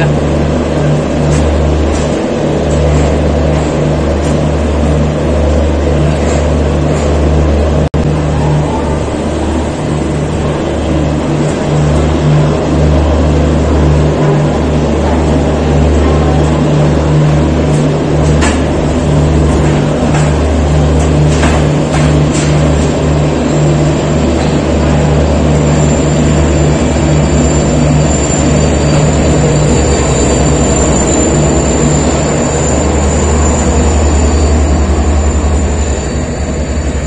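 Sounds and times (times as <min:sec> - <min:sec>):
diesel generator drone: 0:00.0 - 0:37.0.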